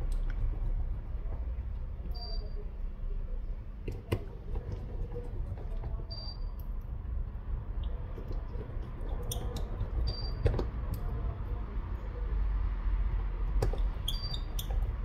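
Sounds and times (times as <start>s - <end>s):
low handling rumble: 0.0s - 15.0s.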